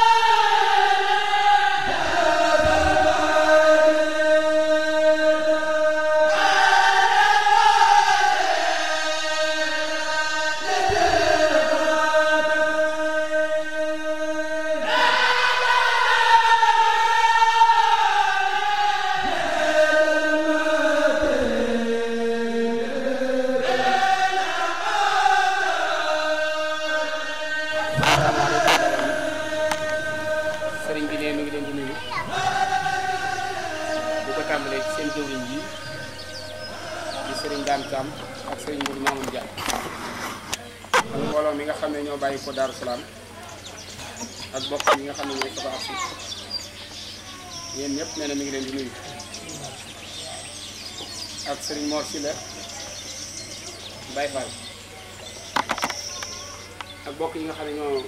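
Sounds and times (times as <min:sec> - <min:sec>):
men chanting together: 0:00.0 - 0:47.0.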